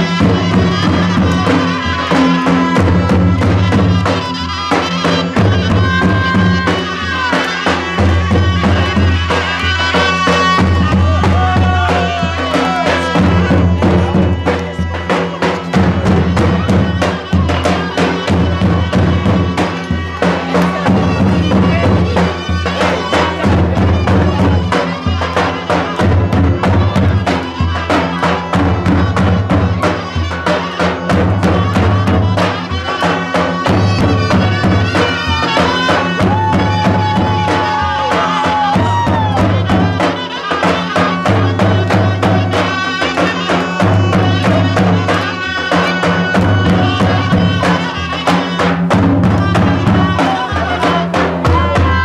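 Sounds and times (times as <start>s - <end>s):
folk drums beaten fast: 0.0s - 52.0s
held melody line: 0.0s - 52.0s.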